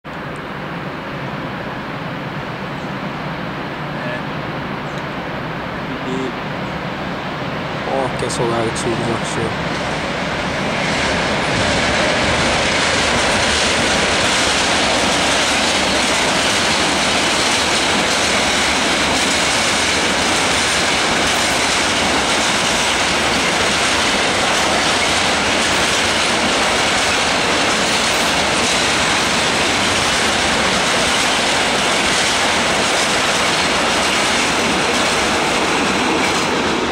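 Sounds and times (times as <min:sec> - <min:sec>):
train wheels rolling on rails: 0:06.5 - 0:36.9.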